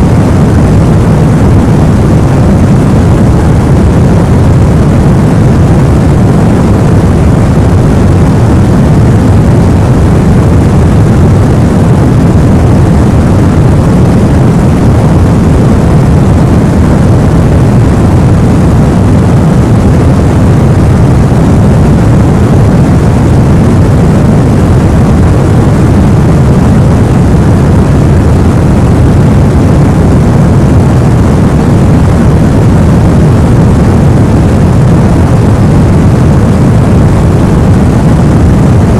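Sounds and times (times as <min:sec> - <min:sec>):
low white noise: 0:00.0 - 0:38.9.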